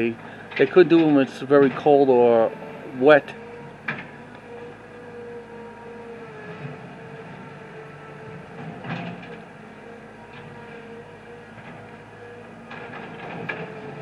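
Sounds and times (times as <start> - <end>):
bulldozer engine running: 0.0 - 14.0.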